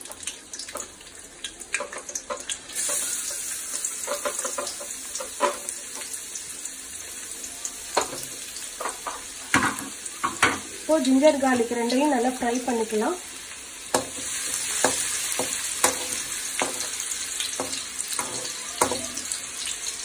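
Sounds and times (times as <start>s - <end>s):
ginger and garlic sizzling in oil: 0.0s - 20.0s.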